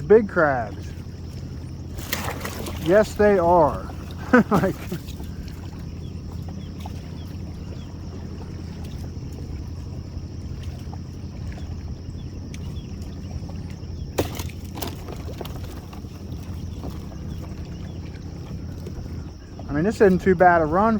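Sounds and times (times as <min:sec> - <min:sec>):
boat motor humming: 0:00.0 - 0:20.9.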